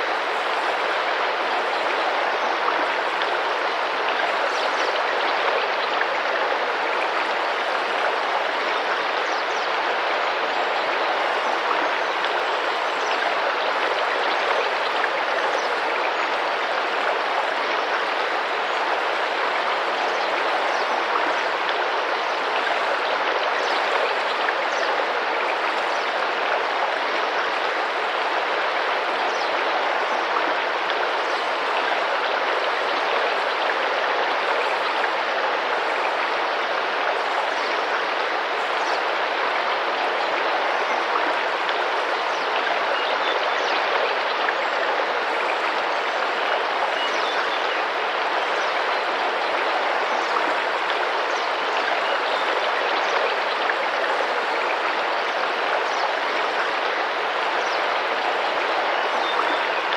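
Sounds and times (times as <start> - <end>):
river water rushing and splashing: 0.0 - 59.9.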